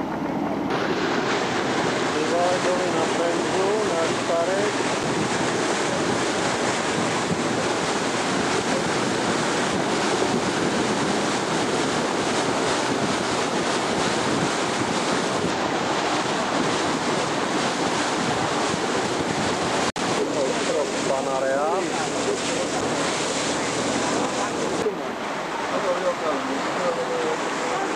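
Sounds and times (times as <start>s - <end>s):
wind on microphone: 0.0s - 25.7s
sea washing: 0.0s - 27.9s.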